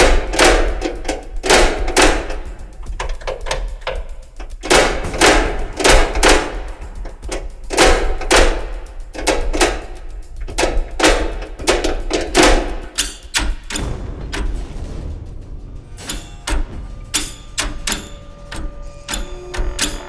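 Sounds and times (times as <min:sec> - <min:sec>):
metal levers clunking and rattling: 0:00.0 - 0:15.0, 0:16.0 - 0:20.0.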